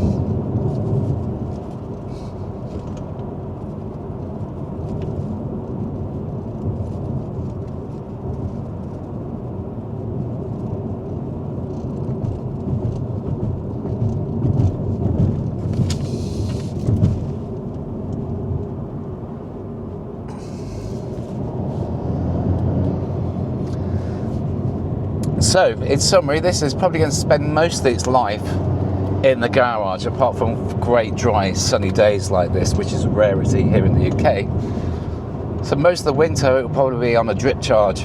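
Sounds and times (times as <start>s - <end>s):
car engine low rumble: 0.0s - 38.0s
road noise: 0.0s - 38.0s.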